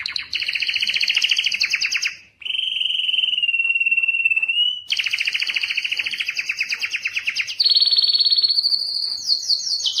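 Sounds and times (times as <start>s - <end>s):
canary singing trills: 0.0s - 10.0s.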